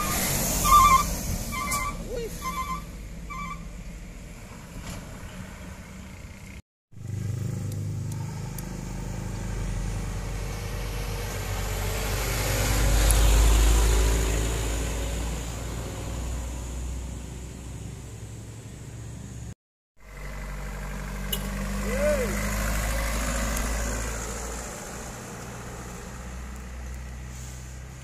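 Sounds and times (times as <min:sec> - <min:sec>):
heavy truck engine passing: 0:00.0 - 0:28.0
tyre and road noise: 0:00.0 - 0:28.0.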